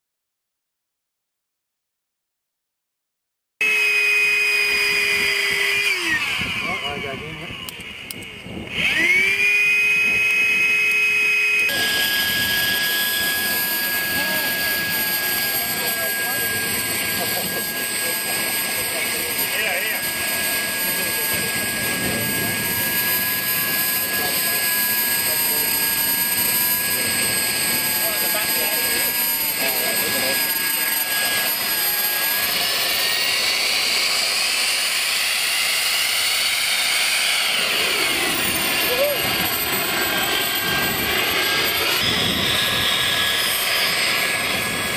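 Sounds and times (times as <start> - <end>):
electric starter whine: 3.6 - 44.9
jet turbine whine and hiss: 3.8 - 44.9.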